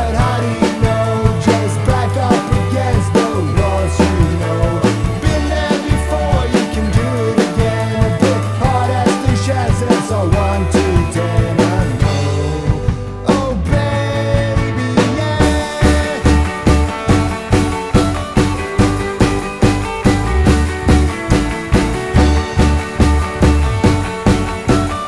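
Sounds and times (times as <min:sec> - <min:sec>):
rock band playing: 0:00.0 - 0:25.0
steady drum beat: 0:00.0 - 0:25.0.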